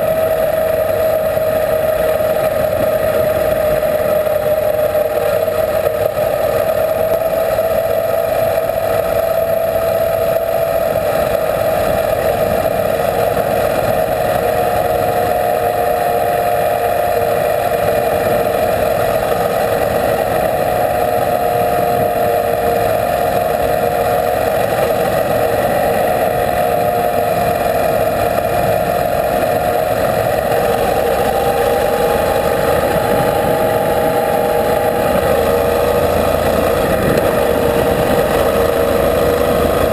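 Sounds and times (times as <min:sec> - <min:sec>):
motorcycle engine cruising: 0:00.0 - 0:39.9
tyres on gravel road: 0:00.0 - 0:39.9.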